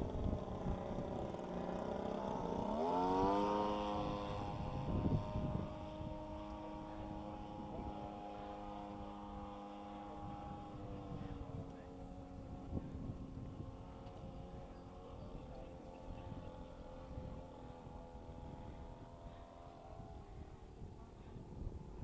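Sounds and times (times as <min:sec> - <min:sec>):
model airplane engine drone: 0:00.0 - 0:22.0.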